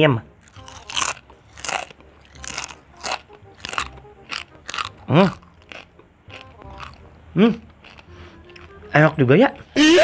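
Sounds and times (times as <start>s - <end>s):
crunching brittle chips: 0.4s - 7.1s, 7.8s - 9.2s.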